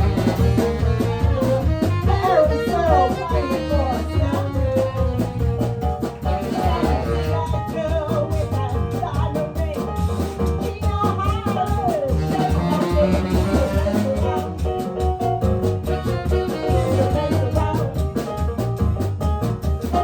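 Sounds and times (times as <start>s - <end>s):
live band playing blues: 0.0s - 20.0s
pulsing bass line: 0.0s - 20.0s.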